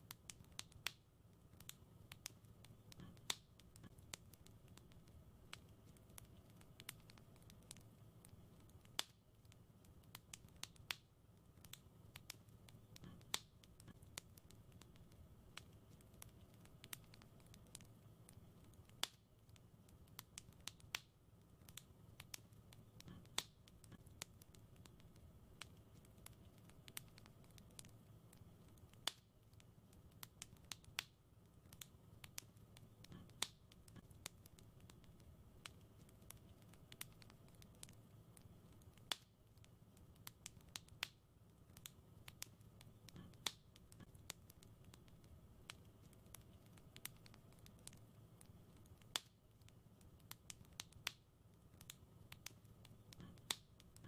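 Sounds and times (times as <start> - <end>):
faint low rumble: 0.0 - 50.4
wood fire crackling: 0.0 - 54.0.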